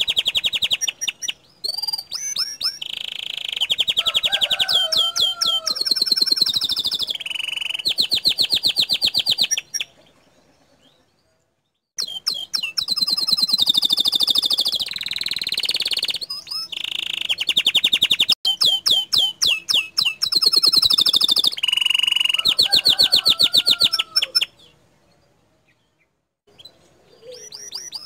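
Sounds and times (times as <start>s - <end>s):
canary singing fast trills: 0.0s - 28.0s.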